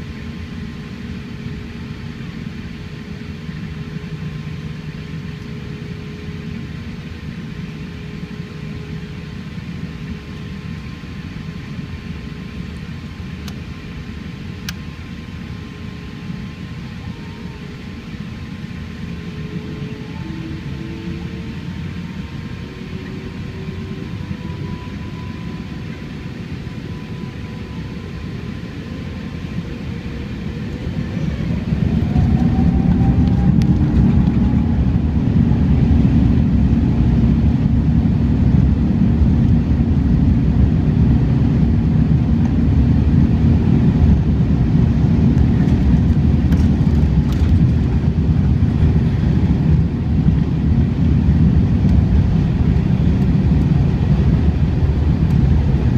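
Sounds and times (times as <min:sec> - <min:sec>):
jet engines spooling up in cabin: 0:00.0 - 0:55.9.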